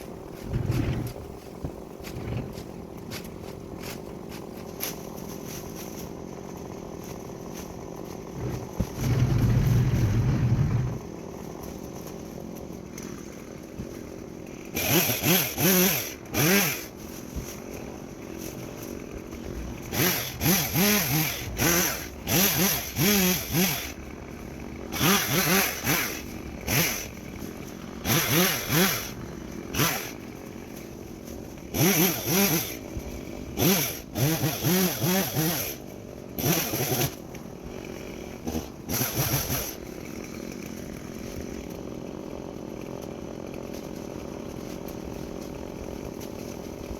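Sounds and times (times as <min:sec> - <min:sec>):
chainsaw idling and revving: 0:00.0 - 0:46.9.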